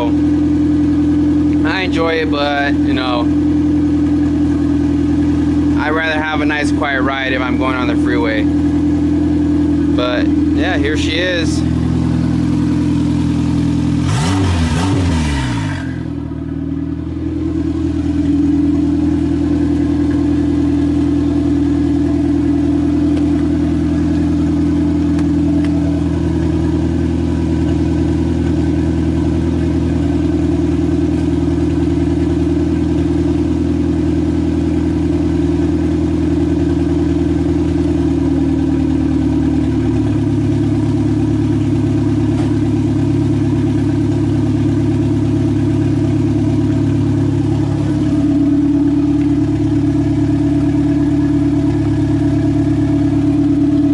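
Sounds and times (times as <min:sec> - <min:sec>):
engine revving: 0:00.0 - 0:43.0, 0:45.8 - 0:53.9
car engine idling: 0:00.0 - 0:53.9.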